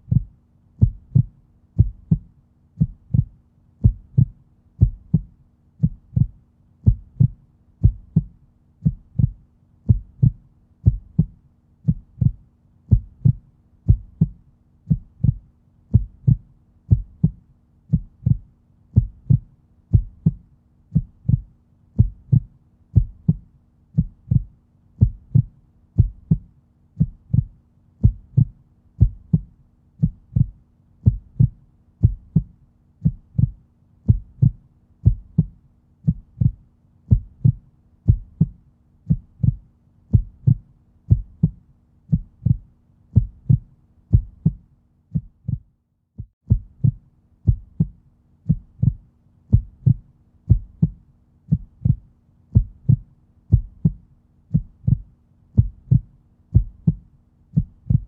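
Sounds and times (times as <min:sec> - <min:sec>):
faint low hum: 0:00.0 - 0:58.0
heartbeat: 0:00.0 - 0:58.0.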